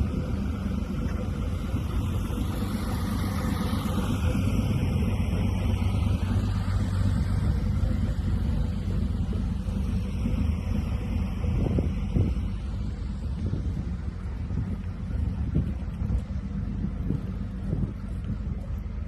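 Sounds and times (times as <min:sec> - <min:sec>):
boat engines idling: 0:00.0 - 0:19.0.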